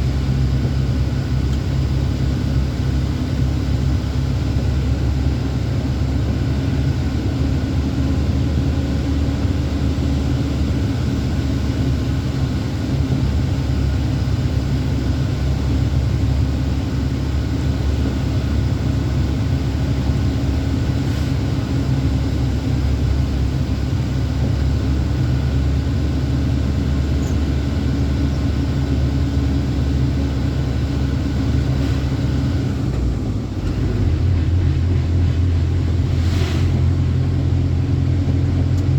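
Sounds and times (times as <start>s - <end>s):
road noise: 0.0s - 38.9s
truck engine running: 0.0s - 38.9s.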